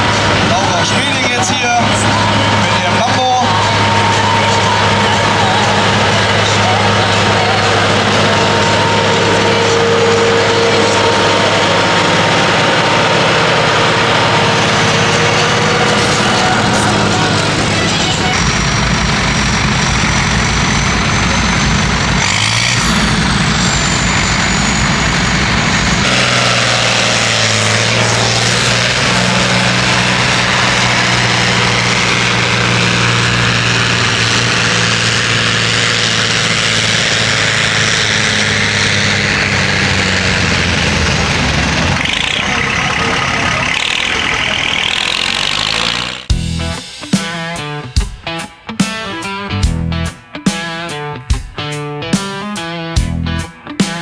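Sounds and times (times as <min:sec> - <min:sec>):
tractor engine at high revs: 0:00.0 - 0:54.0.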